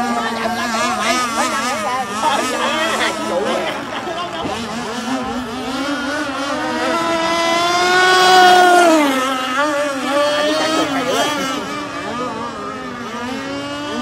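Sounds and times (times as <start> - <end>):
model boat engines at high revs: 0.0 - 14.0.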